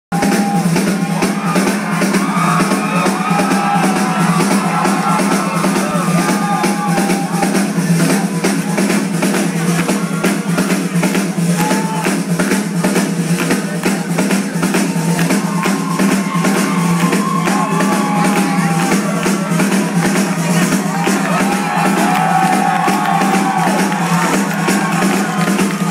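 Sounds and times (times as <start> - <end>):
rock drum kit played live: 0.1 - 25.9.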